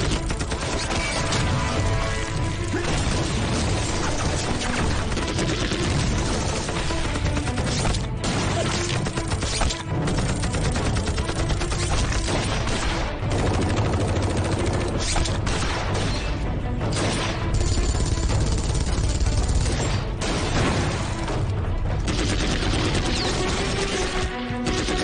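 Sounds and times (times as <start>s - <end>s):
rifles and machine guns firing: 0.0s - 1.6s, 2.8s - 21.4s, 22.0s - 25.0s
film music score: 0.0s - 25.0s.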